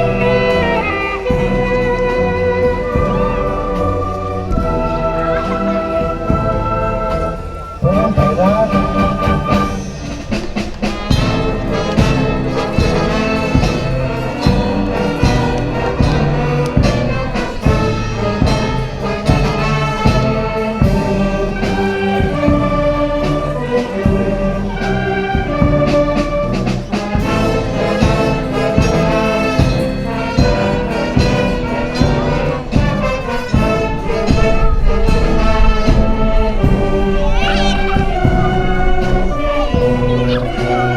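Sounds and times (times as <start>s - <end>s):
wind band playing: 0.0s - 40.9s.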